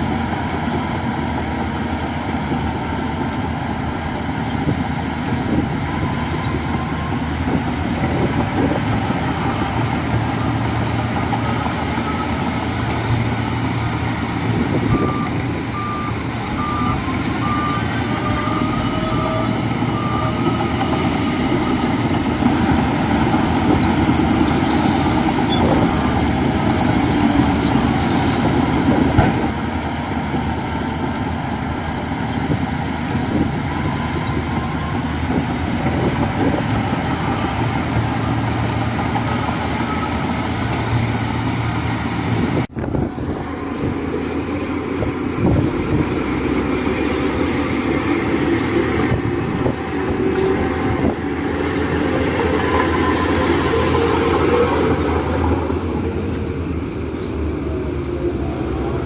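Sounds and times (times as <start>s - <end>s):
heavy diesel machinery running: 0.0s - 59.0s
truck reversing beeper: 0.0s - 59.0s.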